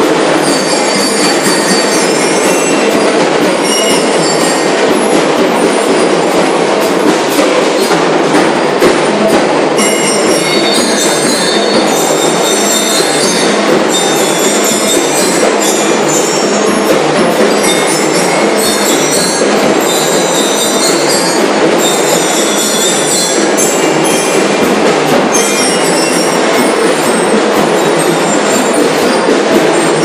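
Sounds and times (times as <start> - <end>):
bell lyres ringing: 0.0 - 30.0
snare and bass drums: 0.0 - 30.0.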